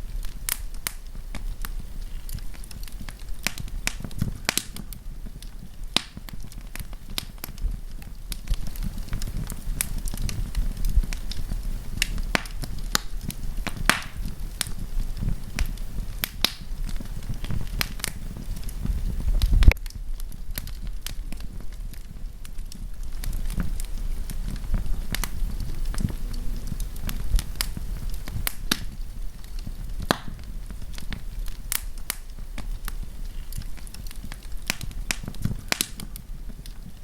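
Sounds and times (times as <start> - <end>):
campfire crackling and popping: 0.0 - 37.0
low steady rumble: 0.0 - 37.0.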